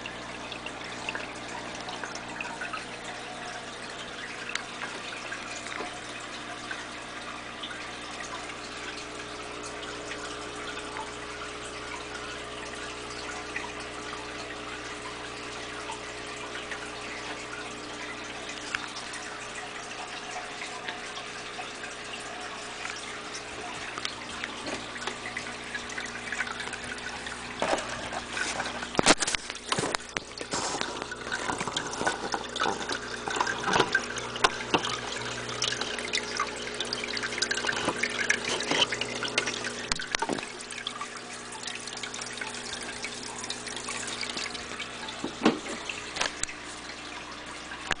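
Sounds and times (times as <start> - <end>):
electric hum: 0.0 - 48.0
water trickling and splashing: 0.0 - 48.0.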